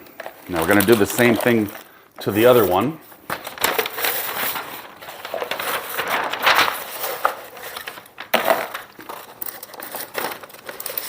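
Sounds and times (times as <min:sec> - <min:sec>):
stiff paper rustling and crinkling: 0:00.1 - 0:11.0.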